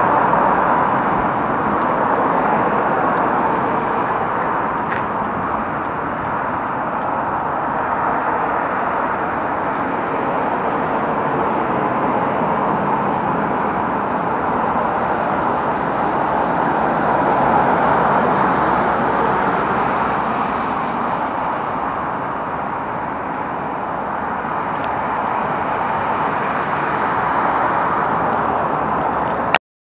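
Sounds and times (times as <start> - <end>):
vehicle passing: 0.0 - 29.5
road traffic: 0.0 - 29.6.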